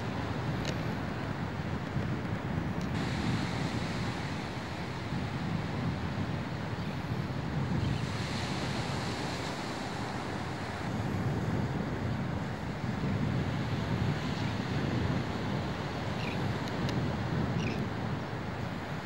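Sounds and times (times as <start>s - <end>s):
small waves on sandy shore: 0.0s - 19.0s
wind noise on microphone: 0.0s - 19.0s.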